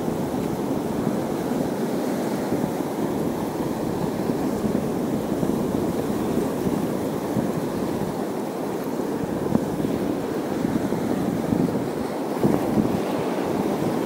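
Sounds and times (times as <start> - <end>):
sea waves washing: 0.0 - 14.0.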